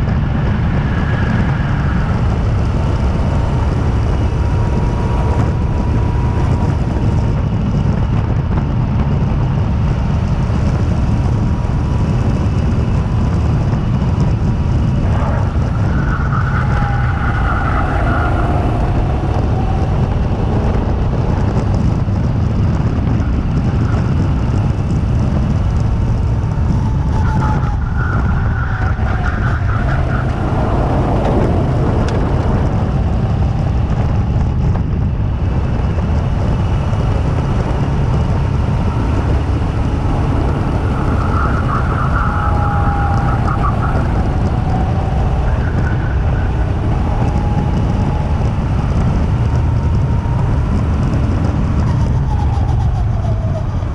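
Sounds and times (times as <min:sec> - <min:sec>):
wind rumble on camera: 0:00.0 - 0:53.9
go-kart motor whining: 0:09.7 - 0:53.9.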